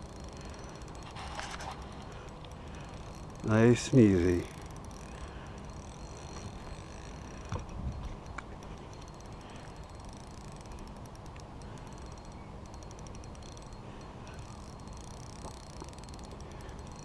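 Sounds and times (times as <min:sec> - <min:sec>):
fishing reel clicking: 0:00.0 - 0:17.0.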